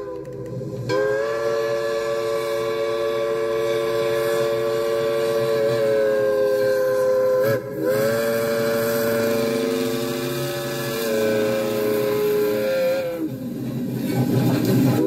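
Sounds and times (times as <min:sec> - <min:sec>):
steam locomotive whistle: 0:00.0 - 0:13.4.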